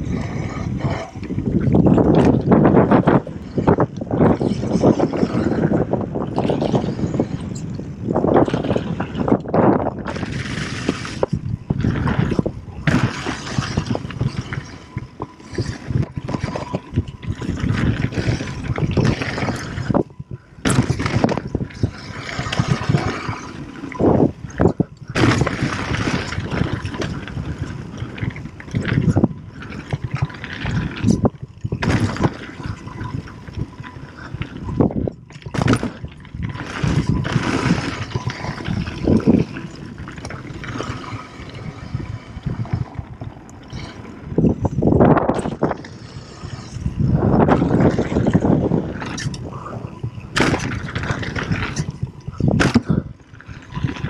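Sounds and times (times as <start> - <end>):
bike rattling: 0.0 - 54.0
wind on microphone: 0.0 - 54.0.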